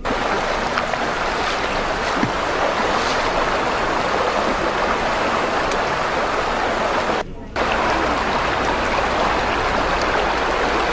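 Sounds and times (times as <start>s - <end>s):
stream water rushing: 0.0s - 10.9s.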